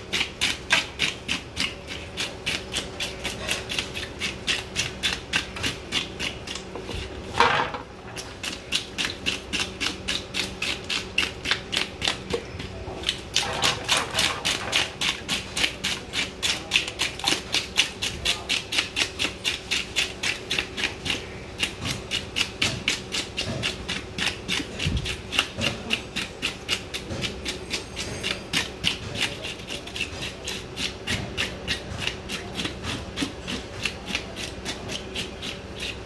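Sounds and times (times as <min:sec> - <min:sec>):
blade scraping fish scales: 0:00.1 - 0:07.4, 0:13.0 - 0:36.0.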